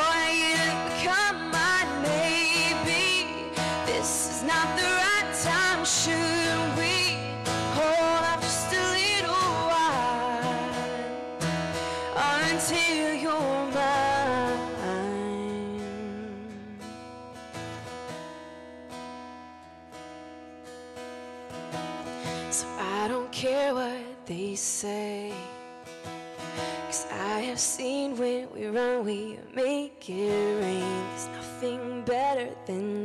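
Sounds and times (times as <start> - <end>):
woman singing: 0.0 - 17.0, 22.2 - 25.8, 26.6 - 33.0
acoustic guitar strumming: 0.0 - 33.0.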